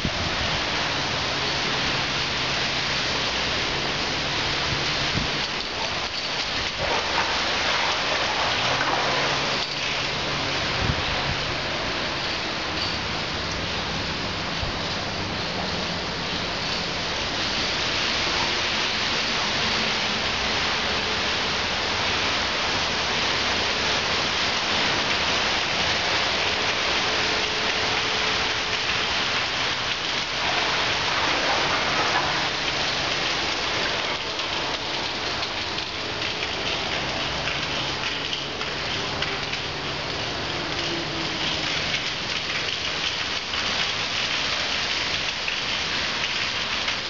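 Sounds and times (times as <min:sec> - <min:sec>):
heavy rain splashing: 0:00.0 - 0:47.0.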